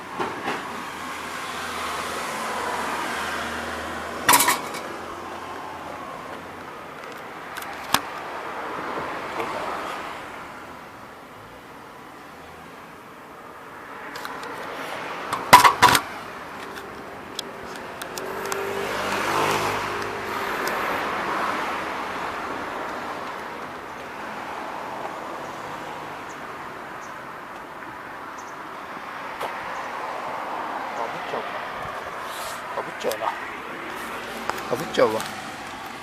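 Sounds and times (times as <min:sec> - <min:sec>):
passing vehicle road noise: 0:00.0 - 0:11.0, 0:12.4 - 0:36.0.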